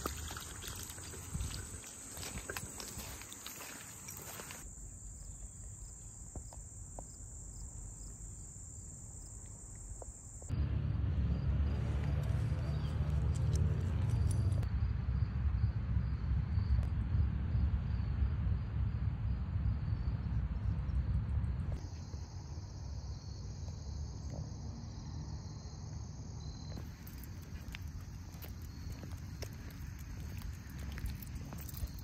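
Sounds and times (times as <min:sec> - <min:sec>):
crickets chirping: 0:00.0 - 0:10.6, 0:11.3 - 0:32.0.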